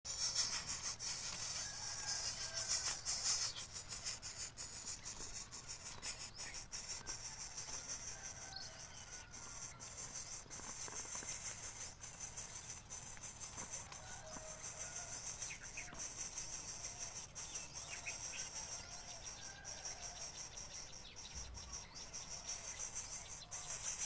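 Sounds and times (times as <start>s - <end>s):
insects chirring: 0.1s - 24.0s.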